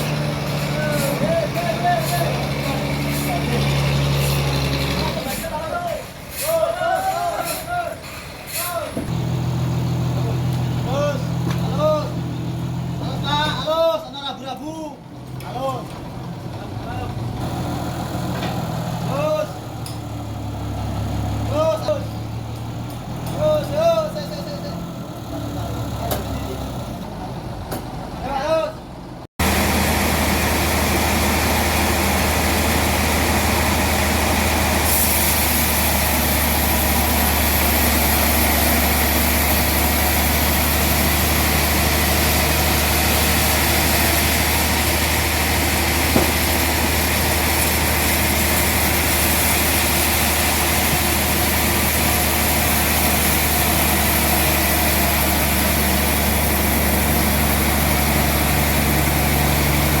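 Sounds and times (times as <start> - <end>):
heavy engine running: 0.0 - 14.2, 15.0 - 60.0.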